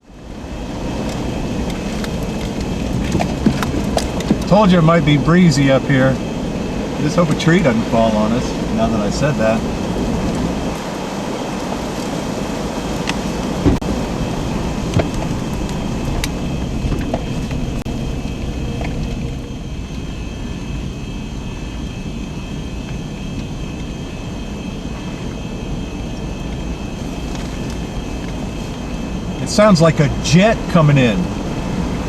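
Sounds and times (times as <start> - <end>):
strong wind roaring through trees: 0.0 - 32.0.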